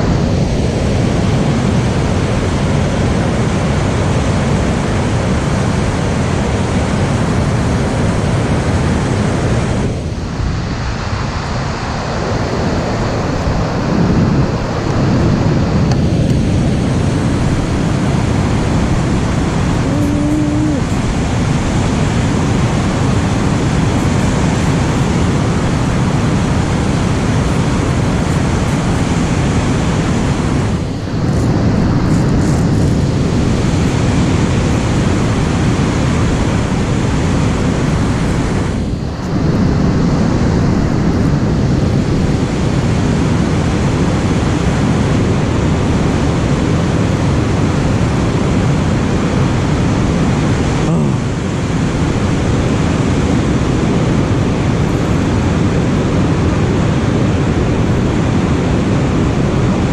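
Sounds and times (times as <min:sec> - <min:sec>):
loud steady rushing noise: 0:00.0 - 0:59.9.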